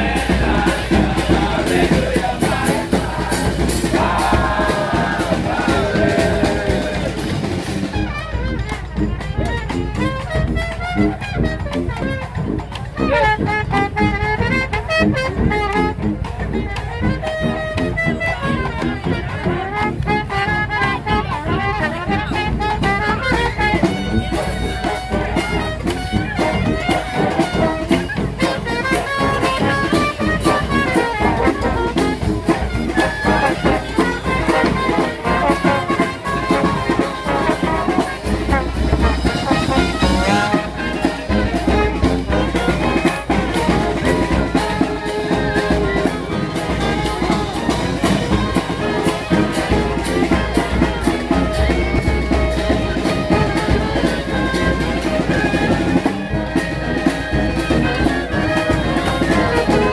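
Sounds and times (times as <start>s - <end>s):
brass band horns playing: 0.0s - 59.9s
steady drum beat: 0.0s - 59.9s.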